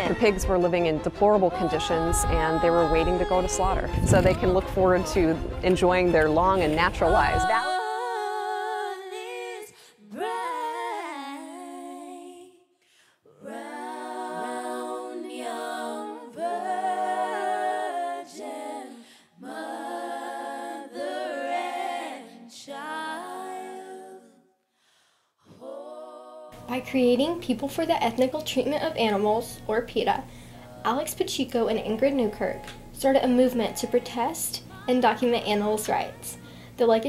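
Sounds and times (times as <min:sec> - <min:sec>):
voices singing without instruments: 0:00.0 - 0:12.7, 0:13.3 - 0:24.7, 0:25.4 - 0:26.7, 0:31.8 - 0:36.8.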